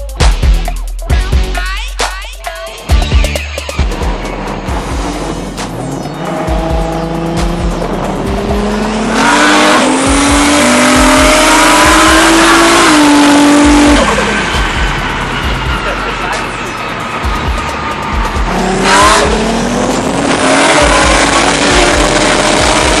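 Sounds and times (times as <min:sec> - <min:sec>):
music with steady beat: 0:00.0 - 0:23.0
car engine revving hard: 0:03.9 - 0:23.0.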